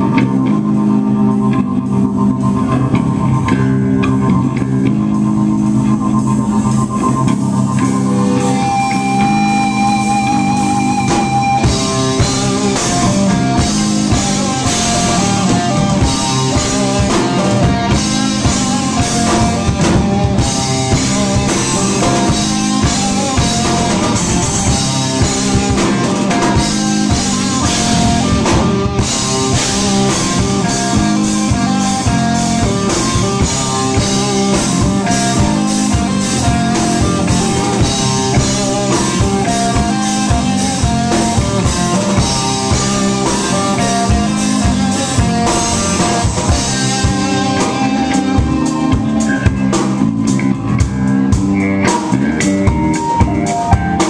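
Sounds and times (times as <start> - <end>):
live instrumental rock band: 0.0 - 54.0
busy drum kit hits: 1.4 - 54.0.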